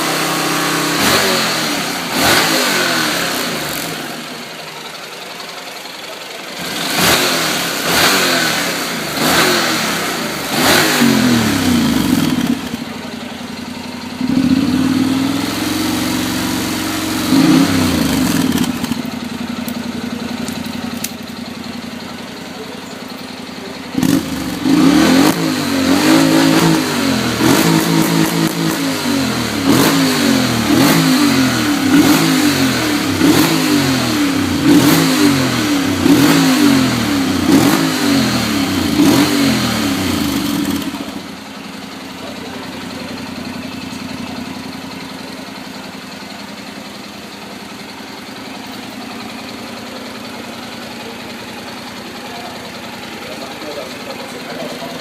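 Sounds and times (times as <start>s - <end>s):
motorcycle engine idling: 0.0s - 55.0s
motorcycle engine revving: 0.0s - 55.0s.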